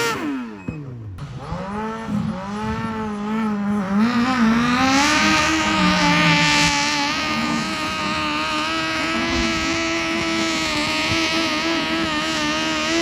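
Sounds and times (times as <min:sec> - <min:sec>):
garden tractor engine revving high: 0:00.0 - 0:13.0.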